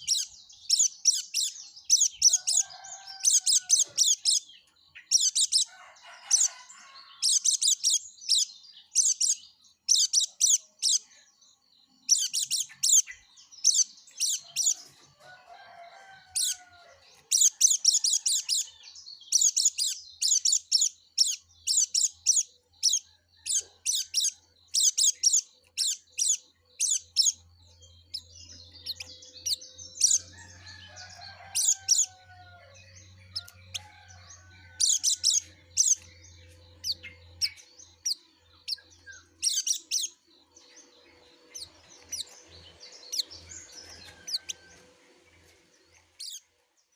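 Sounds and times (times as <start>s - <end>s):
bird singing chirping trills: 0.0s - 46.9s.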